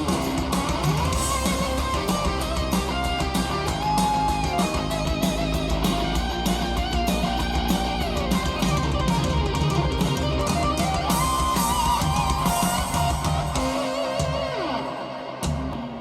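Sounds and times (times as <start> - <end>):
bass: 0.0 - 16.0
drums: 0.0 - 16.0
electric guitar: 0.0 - 16.0.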